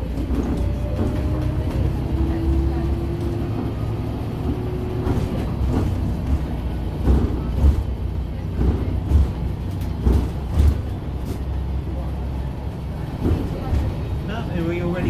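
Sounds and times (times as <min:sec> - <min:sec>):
bus body knocking and rattling: 0:00.0 - 0:15.0
bus engine and road rumble: 0:00.0 - 0:15.0.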